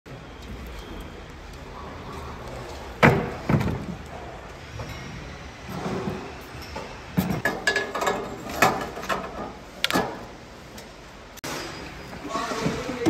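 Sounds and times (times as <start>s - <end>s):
workshop background: 0.1s - 13.0s.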